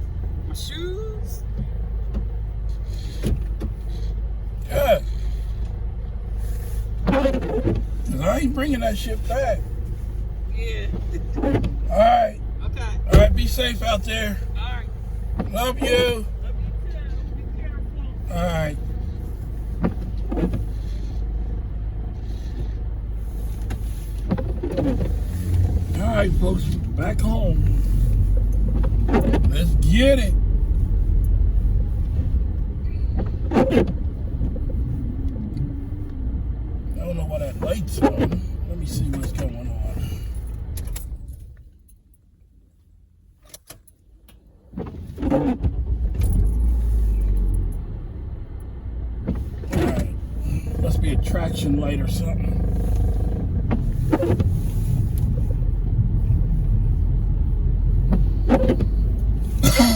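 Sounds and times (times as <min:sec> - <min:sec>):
car engine low rumble: 0:00.0 - 0:59.9.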